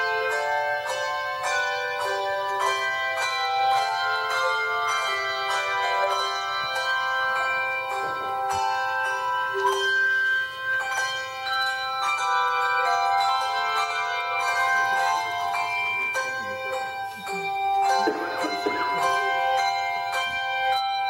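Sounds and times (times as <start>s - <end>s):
handbell choir playing: 0.0s - 21.0s.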